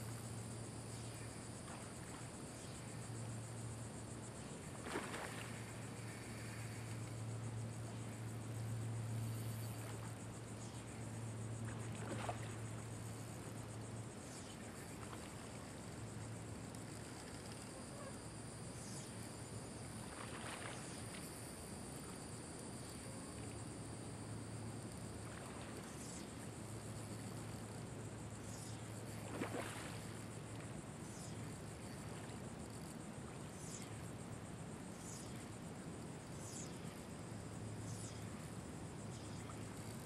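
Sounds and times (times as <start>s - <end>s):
faint low hum: 0.0s - 40.0s
insects buzzing: 0.0s - 40.0s.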